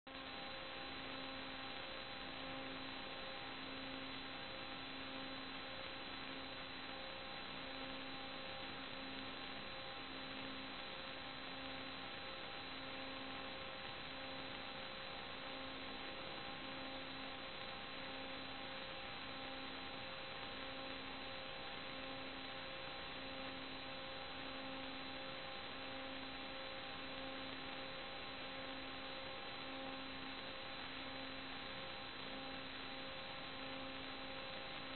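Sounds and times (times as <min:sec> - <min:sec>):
pulsing electrical hum: 0:00.1 - 0:34.9.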